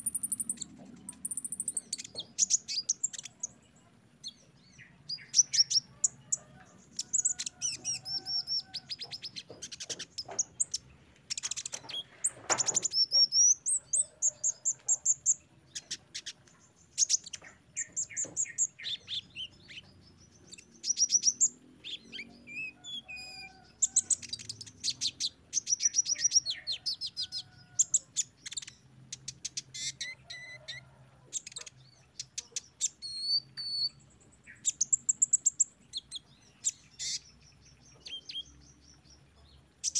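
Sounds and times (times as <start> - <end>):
bird chirping and trilling: 0.0 - 3.6, 4.2 - 16.4, 20.5 - 39.9.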